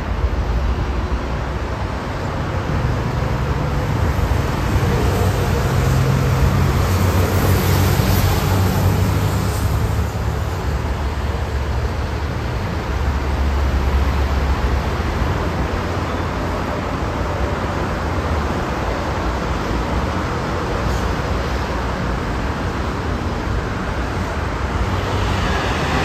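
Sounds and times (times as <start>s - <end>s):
jet engines rumbling: 0.0s - 16.0s, 16.9s - 26.0s.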